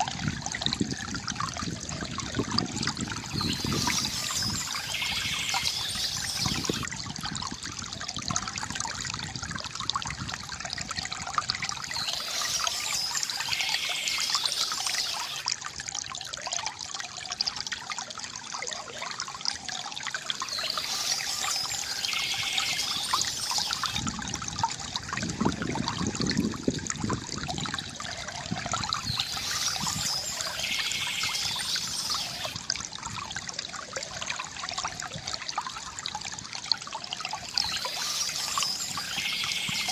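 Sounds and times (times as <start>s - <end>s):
water trickling into a basin: 0.0s - 39.9s.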